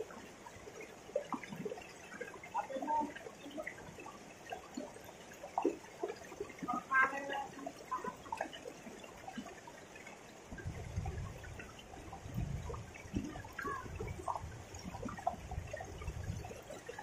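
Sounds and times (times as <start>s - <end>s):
river water trickling: 0.0s - 17.0s
small splashes: 0.0s - 17.0s.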